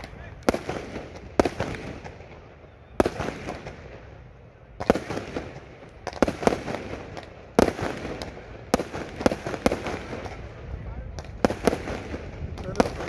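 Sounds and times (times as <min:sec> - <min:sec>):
crackling pops: 0:00.0 - 0:04.1, 0:04.8 - 0:13.0
fireworks bangs: 0:00.0 - 0:13.0.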